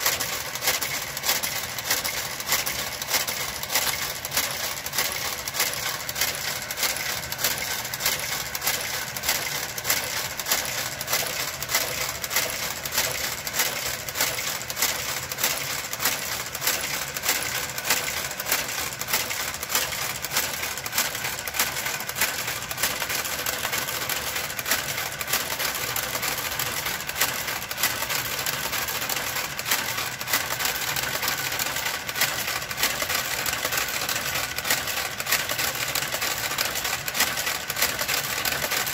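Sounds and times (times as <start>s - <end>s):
knitting machine motor whir: 0.0s - 38.9s
sharp repeating clicks: 0.0s - 38.9s.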